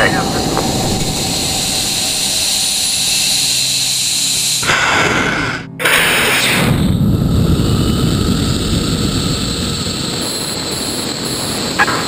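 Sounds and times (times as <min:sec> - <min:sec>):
rocket motor roaring: 0:00.0 - 0:12.0.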